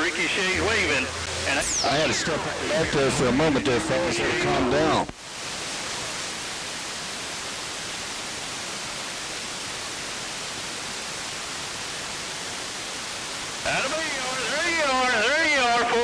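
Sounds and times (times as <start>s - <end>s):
radio static hiss: 0.0s - 9.1s, 10.7s - 16.0s.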